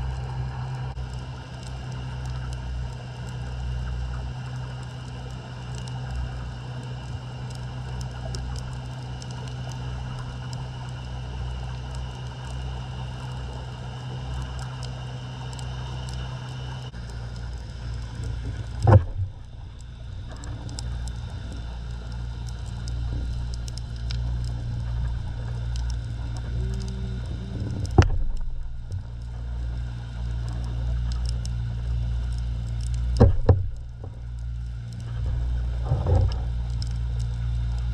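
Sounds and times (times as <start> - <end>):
underwater low rumble: 0.0 - 37.9
faint clicks: 4.2 - 11.2, 14.3 - 37.9.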